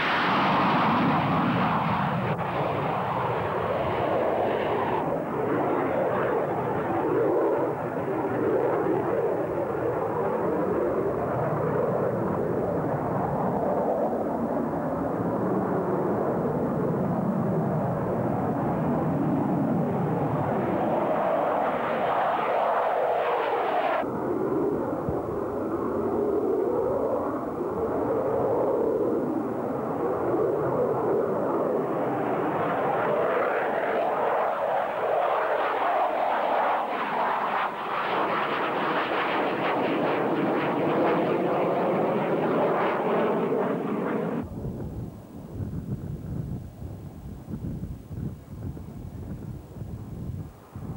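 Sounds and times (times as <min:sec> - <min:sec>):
distant jet approaching: 0:00.0 - 0:47.6
jet flying low overhead: 0:00.0 - 0:50.9.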